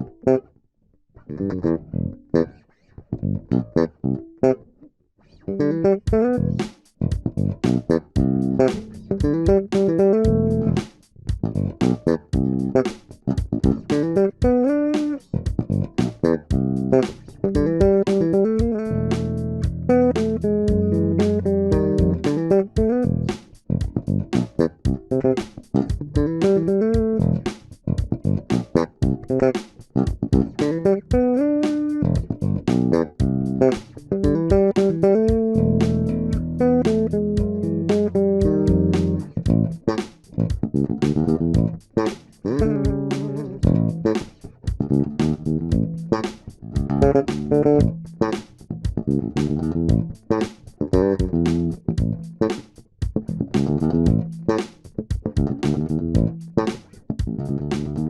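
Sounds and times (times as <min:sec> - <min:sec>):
electric bass guitar solo: 0:00.0 - 0:00.6, 0:01.2 - 0:58.0.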